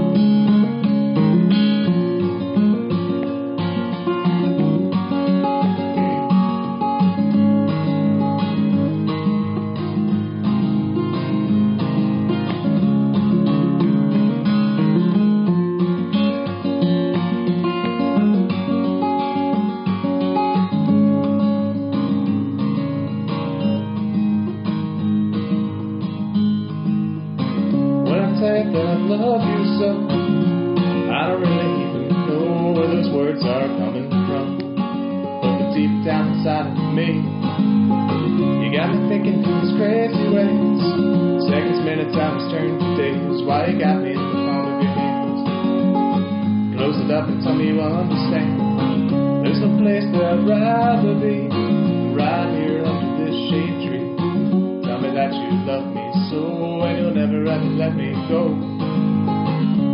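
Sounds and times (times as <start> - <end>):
acoustic guitar: 0.0 - 59.9.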